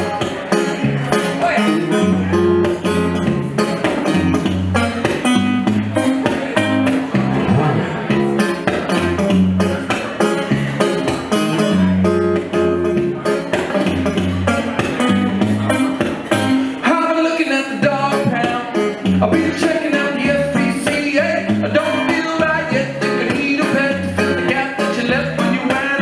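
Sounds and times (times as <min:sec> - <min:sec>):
amplified guitar riff: 0:00.0 - 0:26.0.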